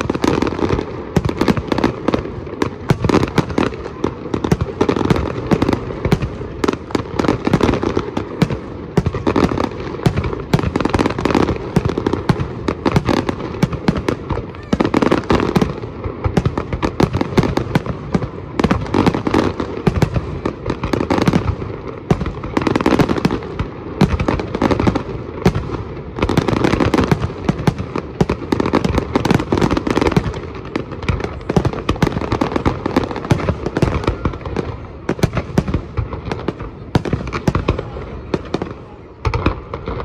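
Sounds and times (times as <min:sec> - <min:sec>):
fireworks bangs and crackle: 0:00.0 - 0:40.0.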